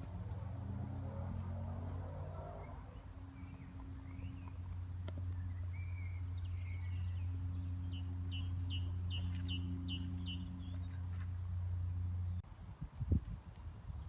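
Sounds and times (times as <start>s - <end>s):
low hum: 0.0s - 14.0s
songbird singing: 1.4s - 13.1s.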